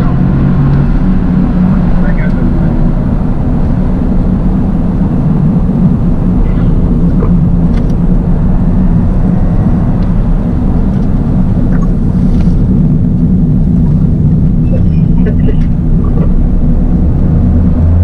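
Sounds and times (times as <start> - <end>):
car engine running: 0.0 - 18.0
road noise: 0.0 - 18.0.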